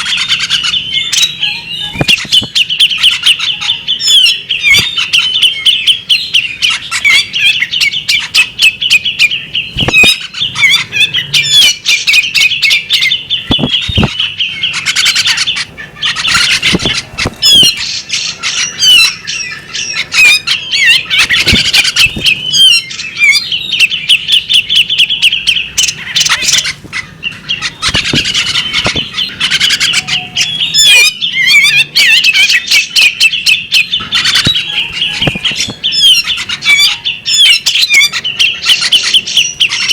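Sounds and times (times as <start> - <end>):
bird chattering chirps: 0.0 - 39.9
harsh squawky bird notes: 0.0 - 39.9.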